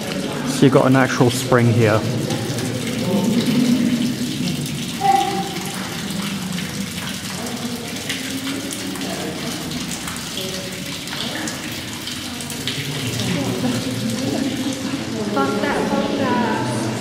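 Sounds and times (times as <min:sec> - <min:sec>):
faint voices: 0:00.0 - 0:17.0
water trickling: 0:00.0 - 0:17.0.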